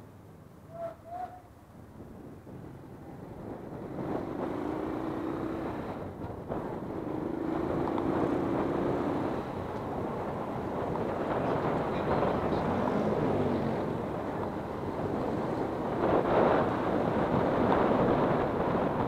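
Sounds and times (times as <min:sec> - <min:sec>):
wind buffeting microphone: 0:00.8 - 0:19.0.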